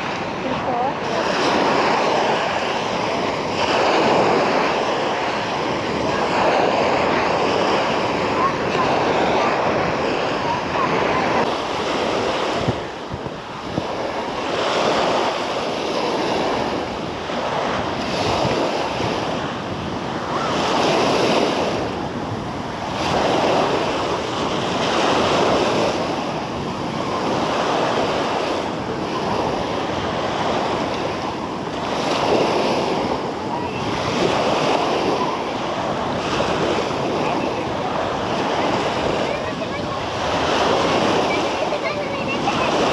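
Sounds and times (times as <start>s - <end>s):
sea waves washing onto beach: 0.0s - 42.9s
wind buffeting microphone: 0.0s - 42.9s.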